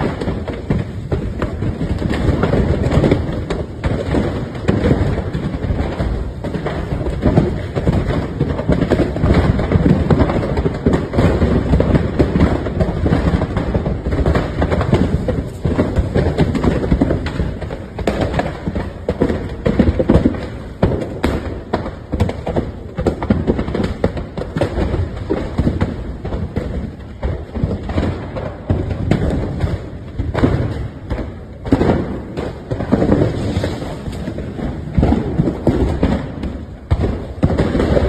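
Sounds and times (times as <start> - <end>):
fire crackling and popping: 0.0 - 38.0
low rumble of fire: 0.0 - 38.0.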